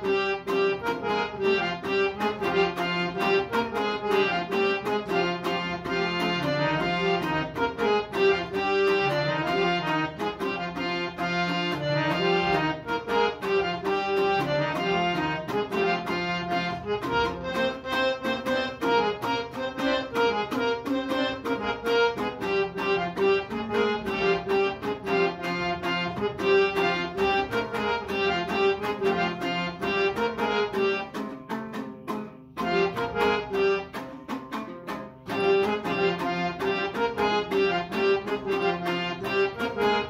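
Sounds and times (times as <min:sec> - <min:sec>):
harmonium reedy notes: 0:00.0 - 0:40.0
lute strummed fast: 0:00.0 - 0:40.0.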